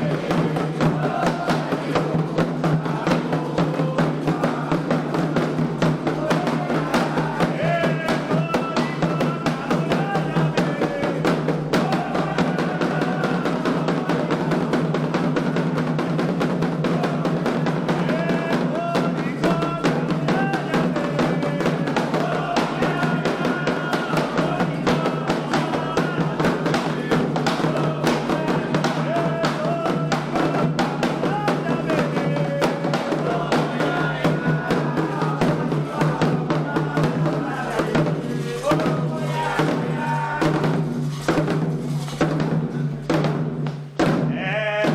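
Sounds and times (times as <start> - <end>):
voices singing a chant: 0.0 - 43.4, 44.0 - 44.9
hand drums beating: 0.0 - 44.9.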